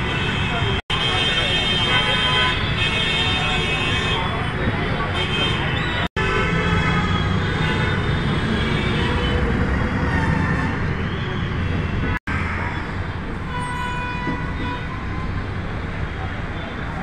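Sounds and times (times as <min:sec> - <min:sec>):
vehicle horns: 0:00.0 - 0:12.8, 0:13.4 - 0:15.4
traffic engine rumble: 0:00.0 - 0:17.0.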